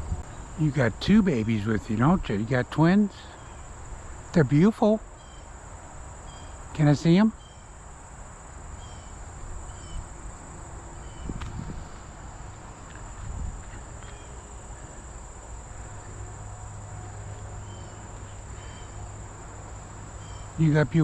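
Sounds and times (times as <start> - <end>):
cricket chirps: 0.0 - 21.0
insect high-pitched drone: 0.0 - 21.0.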